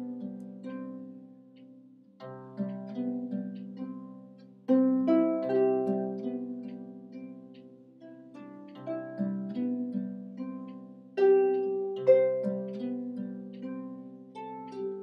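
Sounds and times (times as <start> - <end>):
solo harp playing: 0.0 - 15.0.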